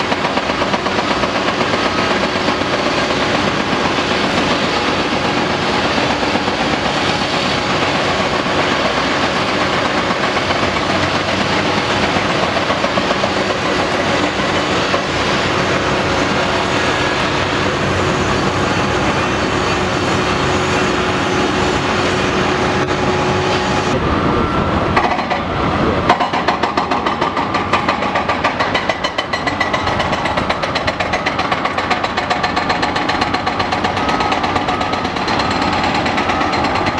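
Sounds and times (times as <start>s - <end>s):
hydraulic hammer pounding: 0.0s - 36.9s
diesel engine running: 0.1s - 36.9s.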